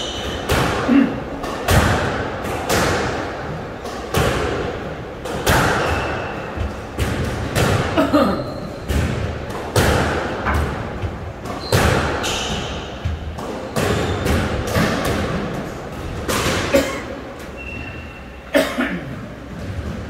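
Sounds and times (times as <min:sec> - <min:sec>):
squash ball hitting rackets and walls: 0:00.0 - 0:17.7.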